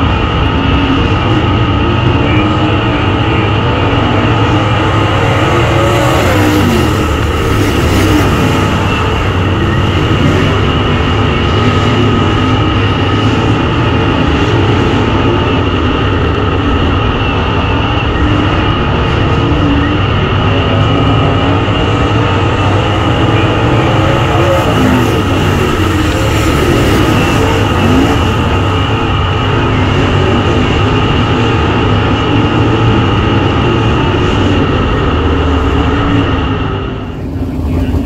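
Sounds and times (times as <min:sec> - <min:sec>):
race car engine running: 0:00.0 - 0:38.0.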